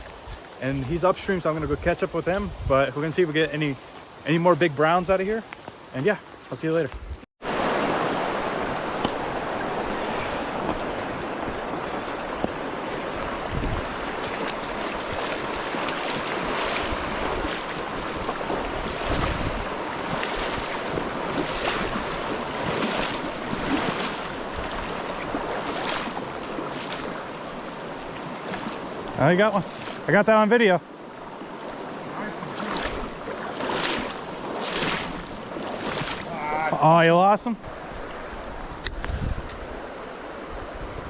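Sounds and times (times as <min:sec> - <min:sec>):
creek water rushing: 0:00.0 - 0:41.0.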